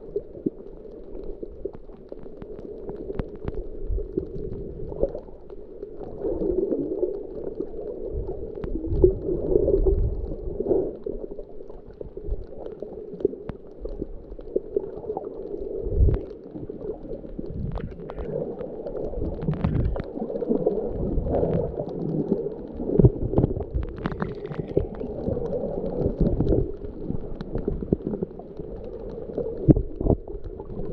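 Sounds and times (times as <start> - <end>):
underwater rumbling and gurgling: 0.0 - 30.9.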